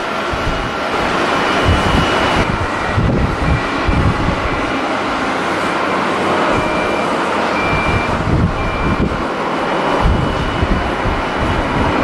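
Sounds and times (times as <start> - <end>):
jet engines roaring: 0.0 - 12.0
wind buffeting microphone: 0.0 - 12.0.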